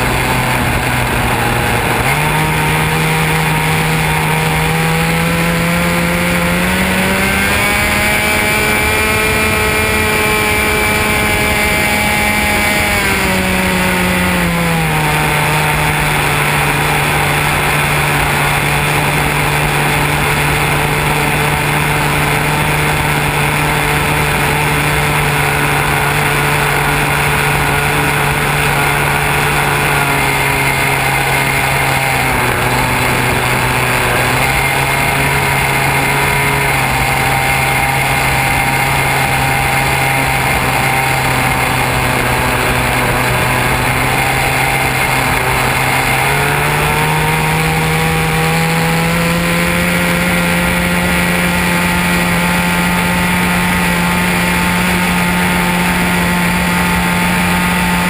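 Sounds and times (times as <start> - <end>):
model airplane motor and propeller: 0.0 - 58.0.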